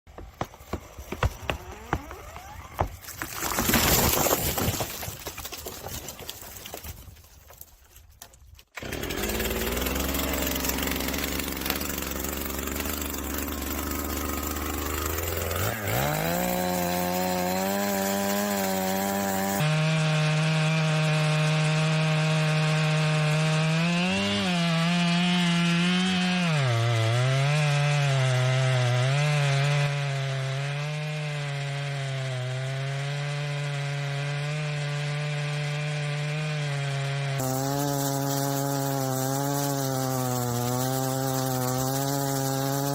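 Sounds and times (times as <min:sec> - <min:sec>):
chainsaw cutting wood: 0:00.1 - 0:42.9.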